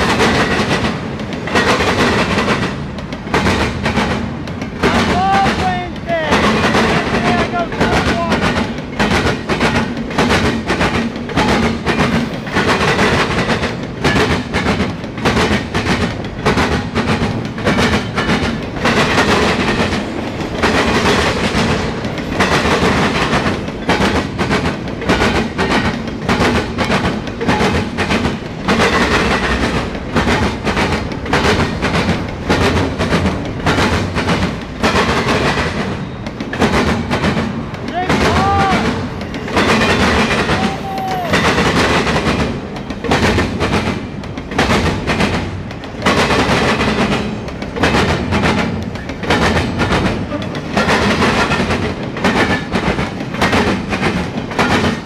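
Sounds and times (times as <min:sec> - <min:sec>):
train rolling rumble: 0:00.0 - 0:55.0
train wheels clattering over track: 0:00.0 - 0:55.0.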